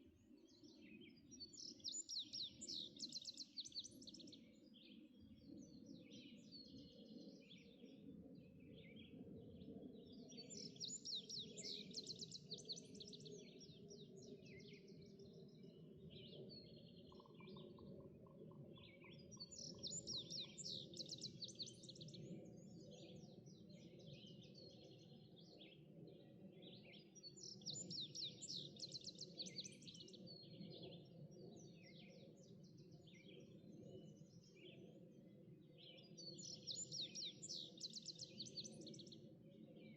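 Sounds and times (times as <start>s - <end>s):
fast busy bird song: 0.1s - 39.9s.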